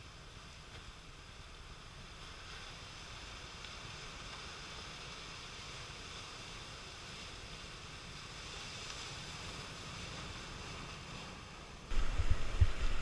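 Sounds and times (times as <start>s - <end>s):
ocean surf on rocky shore: 0.0s - 13.0s
wind rumble on microphone: 0.0s - 13.0s.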